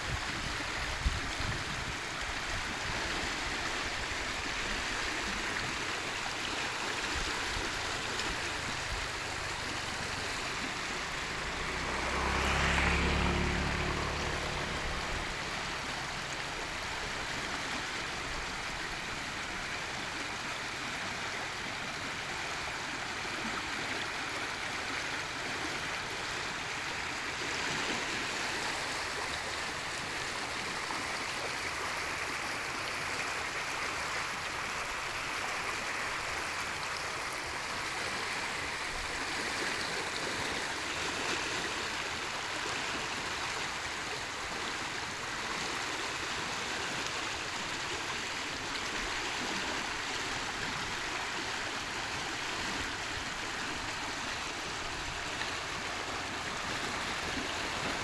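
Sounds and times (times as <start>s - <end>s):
water rushing along canal: 0.0s - 58.0s.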